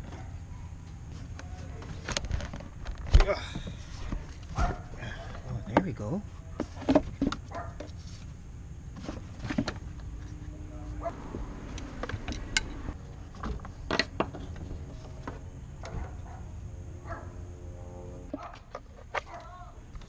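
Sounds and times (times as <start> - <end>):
low steady rumble: 0.0 - 18.3.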